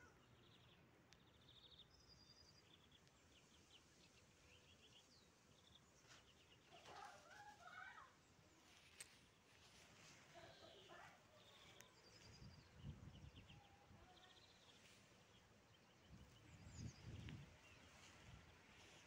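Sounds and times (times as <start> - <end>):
small birds chirping and trilling: 0.0 - 19.0.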